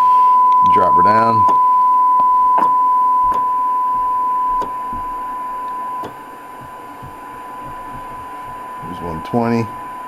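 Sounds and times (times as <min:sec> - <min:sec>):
steady test tone from radio speaker: 0:00.0 - 0:10.0.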